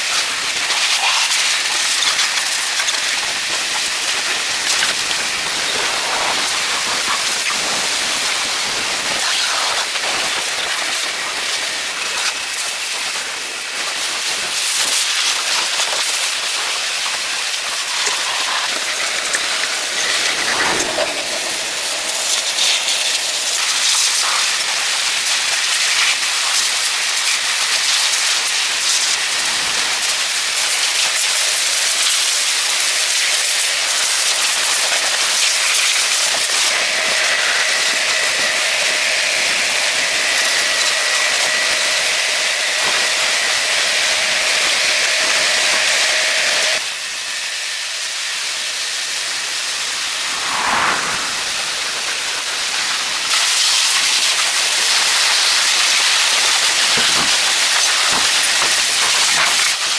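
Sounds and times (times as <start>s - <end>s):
loud steady hissing: 0.0s - 43.0s, 45.4s - 59.9s.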